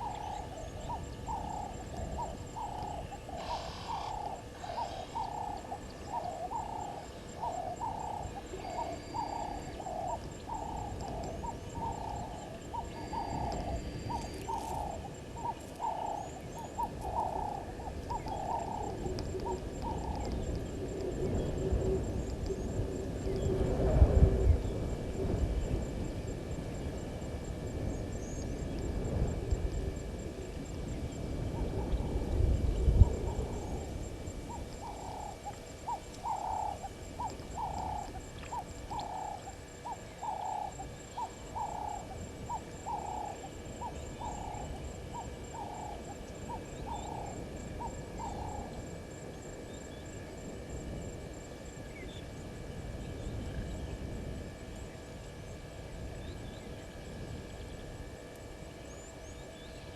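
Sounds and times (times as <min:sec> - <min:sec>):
bird hooting calls: 0:00.0 - 0:25.9, 0:27.8 - 0:55.1
faint high insect trill: 0:00.0 - 0:59.9.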